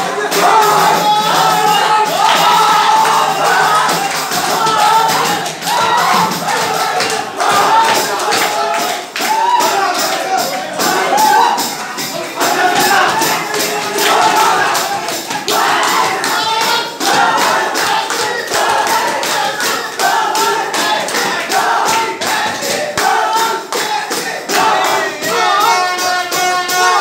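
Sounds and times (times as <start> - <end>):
crowd chanting in unison: 0.0 - 27.0
hand drums beating: 0.2 - 27.0.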